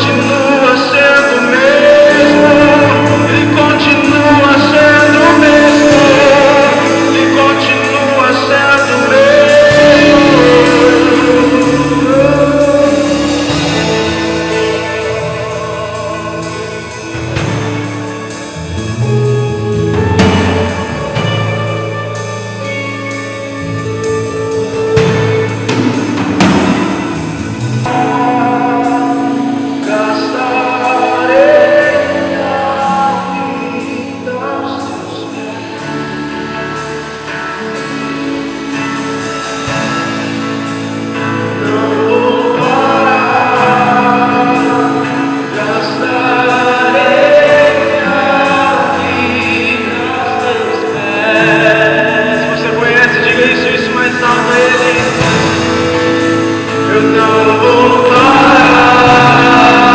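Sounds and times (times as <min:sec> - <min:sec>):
people singing: 0:00.0 - 0:19.0, 0:26.1 - 0:37.6, 0:41.2 - 0:59.9
band playing chords: 0:00.0 - 0:59.9.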